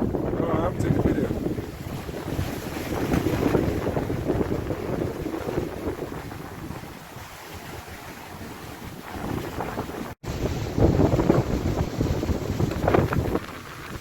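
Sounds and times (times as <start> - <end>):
water rushing along a hull: 0.0 - 14.0
wind buffeting microphone: 0.0 - 14.0.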